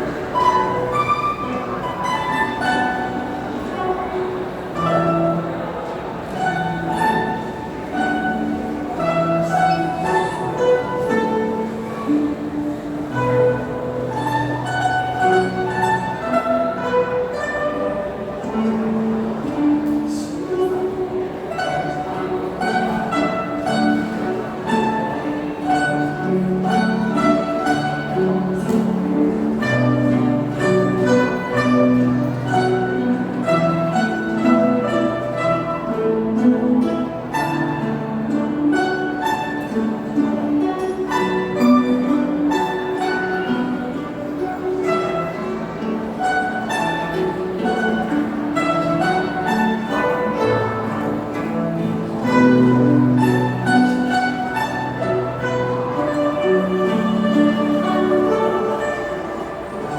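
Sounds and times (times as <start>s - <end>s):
plucked and bowed strings music: 0.0s - 59.9s.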